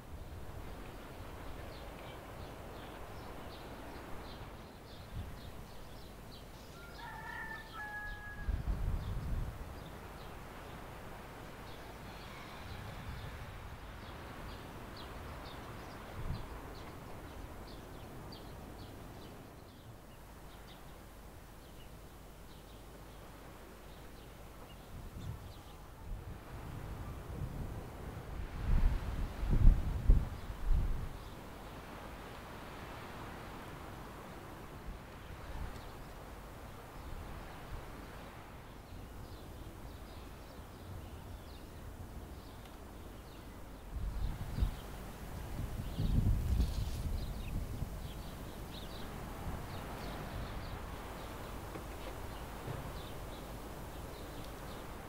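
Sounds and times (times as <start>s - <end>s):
small birds chirping: 0.2s - 8.2s, 8.9s - 26.0s, 35.2s - 55.0s.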